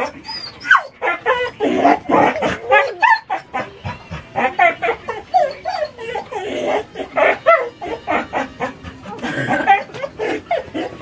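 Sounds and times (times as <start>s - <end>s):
dog barking and yipping: 0.0s - 11.0s.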